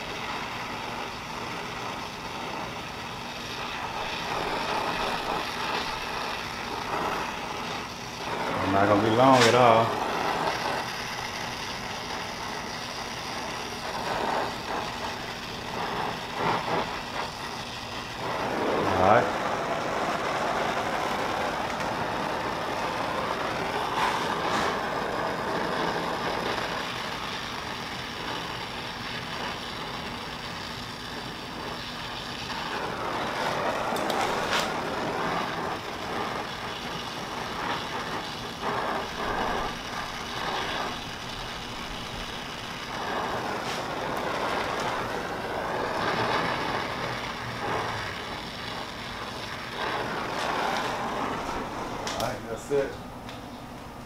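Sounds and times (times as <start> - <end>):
brazing torch hissing: 0.0 - 53.6.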